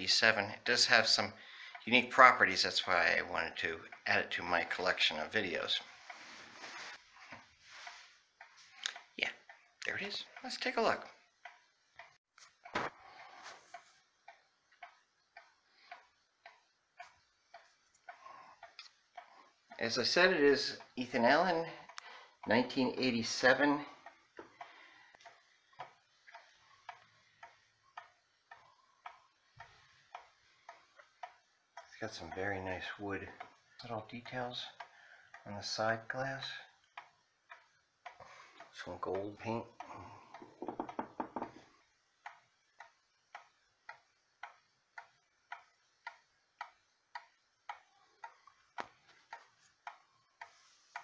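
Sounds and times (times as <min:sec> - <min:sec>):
wall clock ticking: 0:00.0 - 0:51.0.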